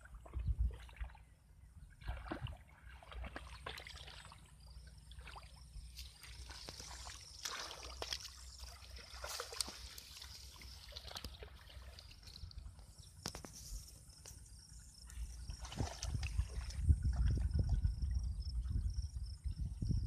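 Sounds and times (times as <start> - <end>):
hands sloshing through muddy water: 0.0 - 14.4, 15.1 - 18.0.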